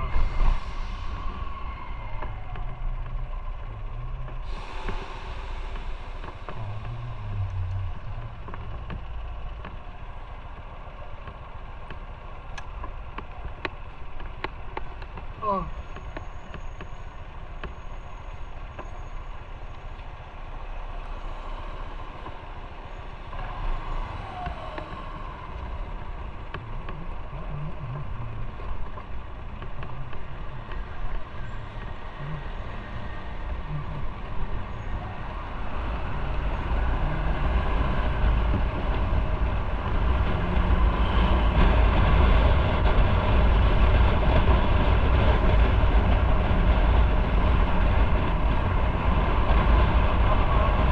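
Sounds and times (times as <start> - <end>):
wind rumble: 0.0 - 50.9.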